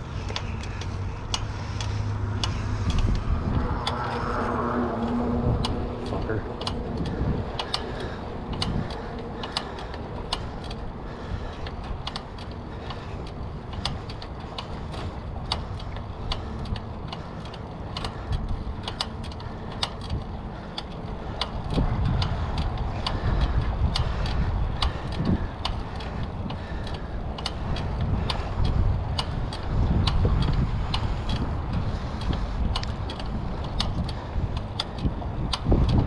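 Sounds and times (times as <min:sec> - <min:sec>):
bicycle frame rattling: 0:00.0 - 0:36.0
low rolling rumble: 0:00.0 - 0:36.0.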